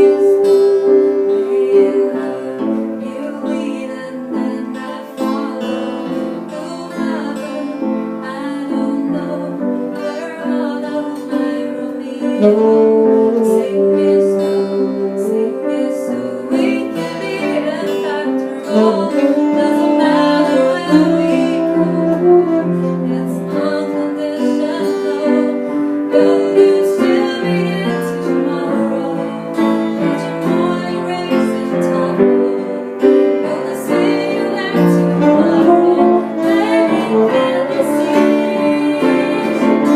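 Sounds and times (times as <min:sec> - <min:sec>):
band with piano and guitar: 0:00.0 - 0:39.9
woman singing: 0:00.0 - 0:39.9.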